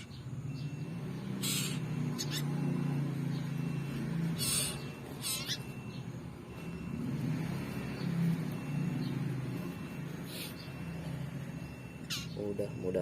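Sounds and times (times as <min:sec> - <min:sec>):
nestling raspy begging calls: 0:00.0 - 0:13.0.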